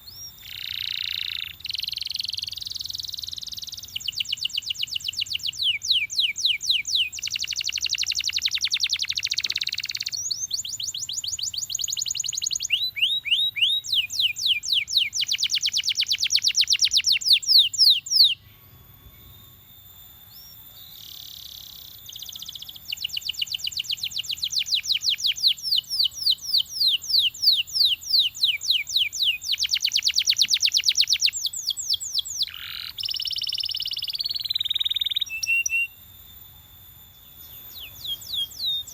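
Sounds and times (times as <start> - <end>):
canary singing trills: 0.0 - 36.1, 37.0 - 38.9.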